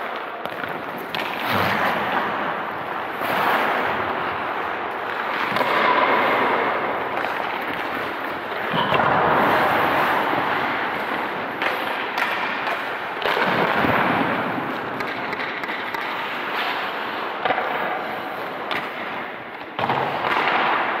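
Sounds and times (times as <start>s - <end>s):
ice skates scraping on ice: 0.0s - 21.0s
knocks of sticks and pucks: 0.0s - 21.0s.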